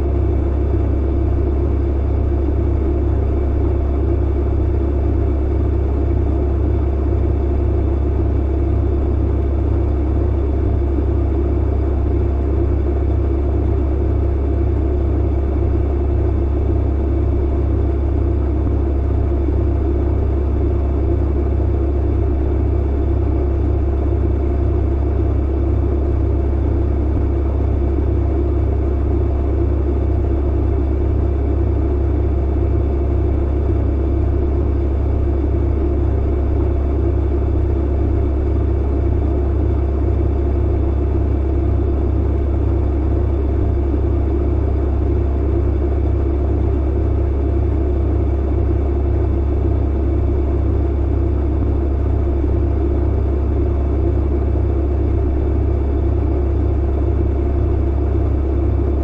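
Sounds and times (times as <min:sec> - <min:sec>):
tumble dryer rumble and hum: 0:00.0 - 0:59.0.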